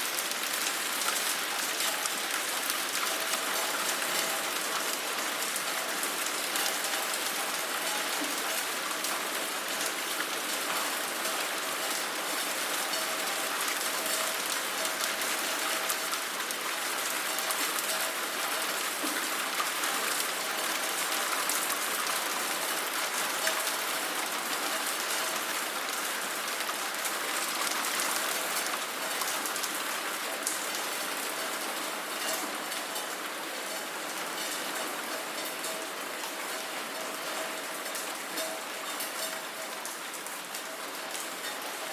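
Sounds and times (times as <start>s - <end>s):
steady rain pattering: 0.0s - 41.9s.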